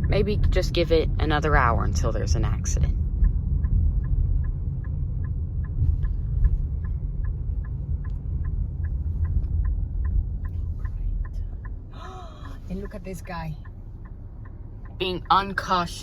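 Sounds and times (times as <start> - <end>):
car turn signal clicking: 0.0 - 16.0
loud low rumble: 0.0 - 16.0.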